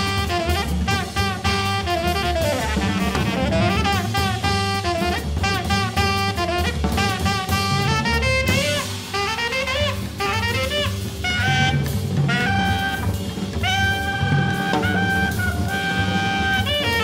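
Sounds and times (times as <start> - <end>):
bass: 0.0 - 17.0
drum kit: 0.0 - 17.0
tenor saxophone: 0.0 - 17.0.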